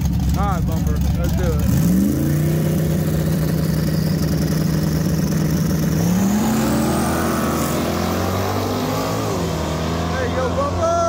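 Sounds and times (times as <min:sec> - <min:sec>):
drag race engines revving: 0:00.0 - 0:11.0.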